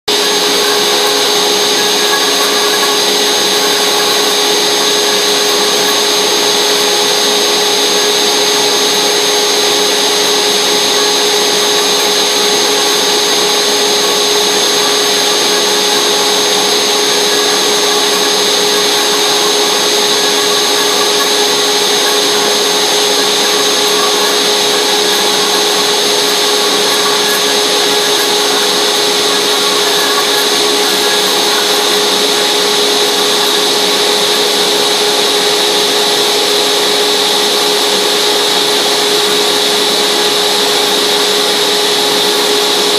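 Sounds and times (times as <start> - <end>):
router spindle whining: 0.1 - 42.9.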